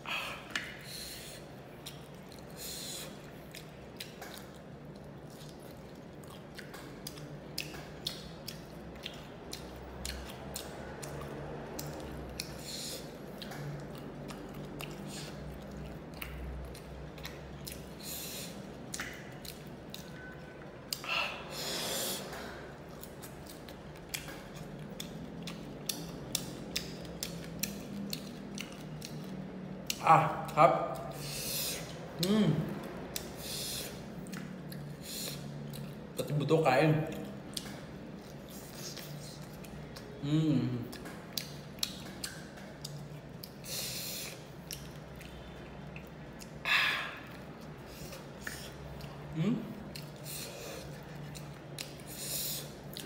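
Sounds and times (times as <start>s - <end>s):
chewing crispy fried fish: 0.4s - 21.3s, 22.3s - 53.0s.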